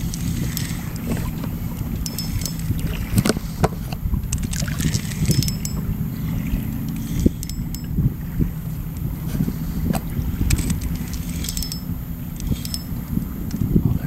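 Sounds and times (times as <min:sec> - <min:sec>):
water lapping against kayak hull: 0:00.0 - 0:14.0
wind buffeting microphone: 0:00.0 - 0:14.0.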